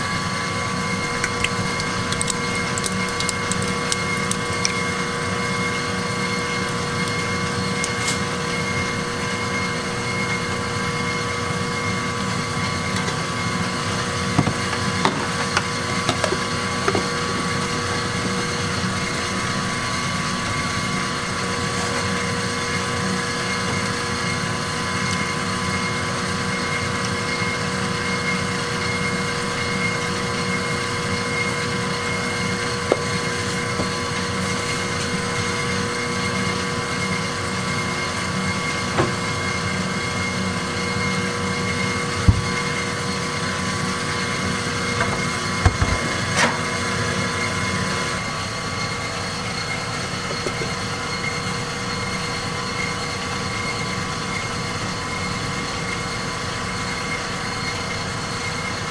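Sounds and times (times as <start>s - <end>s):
kitchen machinery humming: 0.0s - 58.9s.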